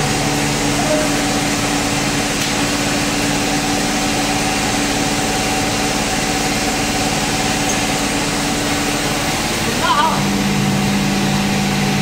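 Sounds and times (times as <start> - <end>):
machinery motor hum: 0.0 - 12.0.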